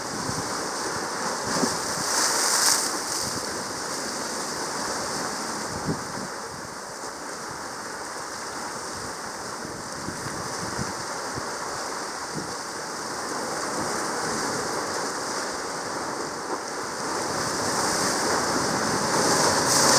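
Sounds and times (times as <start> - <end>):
sea water rushing hiss: 0.0 - 19.9.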